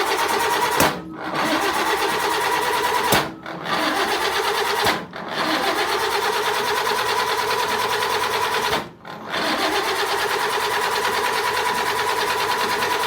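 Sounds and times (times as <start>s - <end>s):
starter cranking engine: 0.0s - 13.0s.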